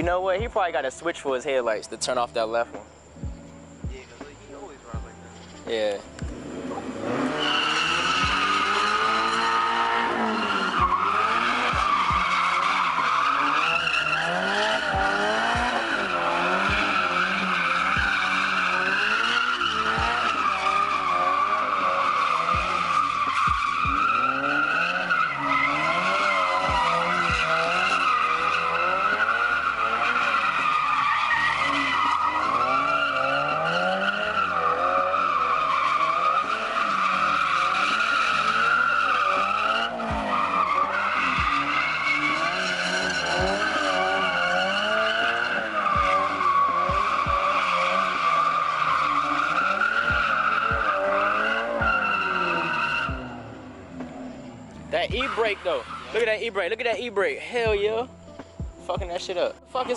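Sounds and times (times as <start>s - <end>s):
car engine revving: 2.7s - 59.9s
tyres squealing: 5.4s - 54.2s, 54.8s - 58.2s.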